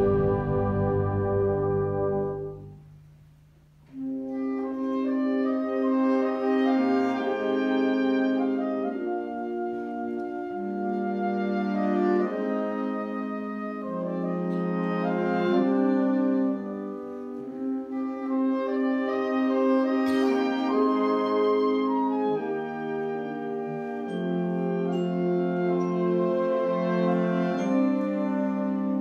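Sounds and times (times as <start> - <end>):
brass band playing chords: 0.0 - 2.8, 3.9 - 29.0.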